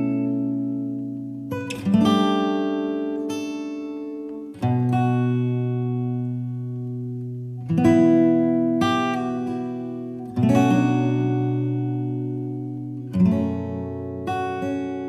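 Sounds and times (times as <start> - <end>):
acoustic guitar chords ringing: 0.0 - 15.0.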